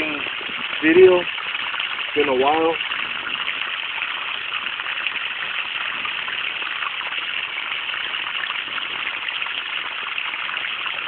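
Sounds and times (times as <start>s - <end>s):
water gushing from hose: 0.0s - 11.0s.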